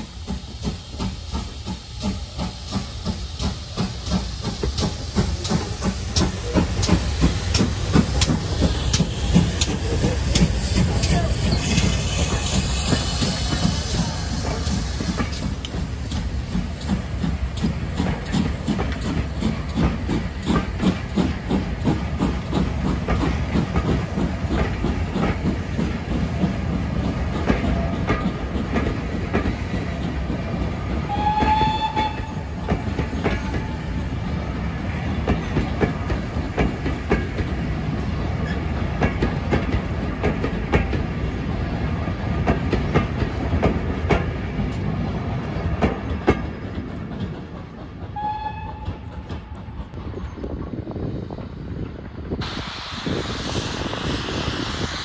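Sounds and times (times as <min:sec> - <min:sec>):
train wheels clicking over rail joints: 0:00.0 - 0:52.8.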